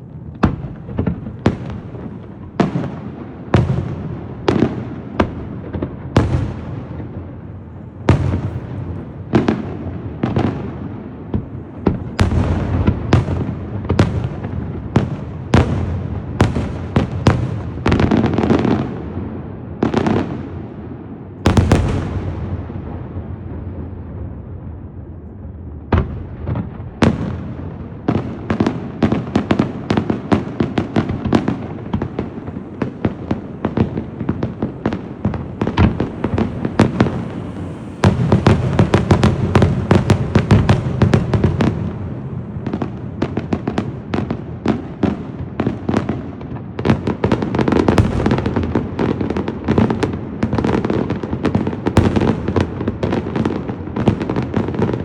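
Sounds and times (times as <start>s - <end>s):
fireworks banging and crackling: 0.0s - 55.0s.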